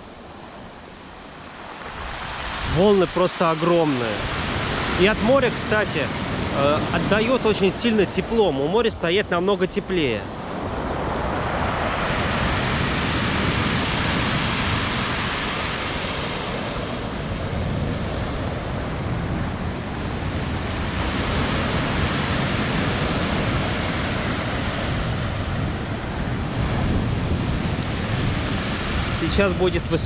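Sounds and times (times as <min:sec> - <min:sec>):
wind on microphone: 0:00.0 - 0:08.8, 0:09.8 - 0:30.0
waves breaking ashore: 0:00.0 - 0:30.0.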